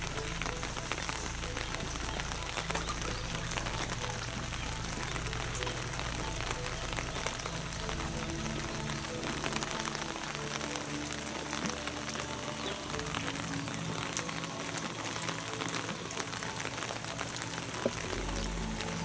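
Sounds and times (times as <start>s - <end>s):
background music with held tones: 0.0s - 19.0s
rain on wet pavement: 0.0s - 19.0s.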